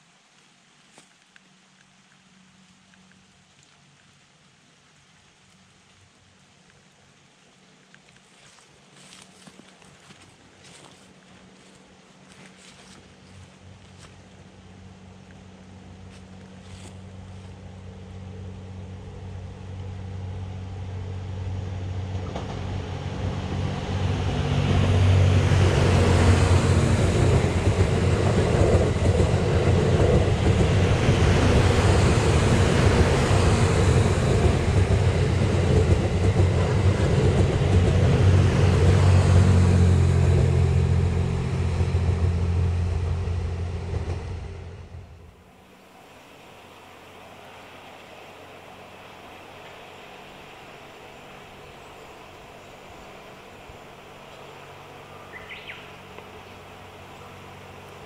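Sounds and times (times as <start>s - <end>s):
train passing on rails: 9.0s - 58.0s.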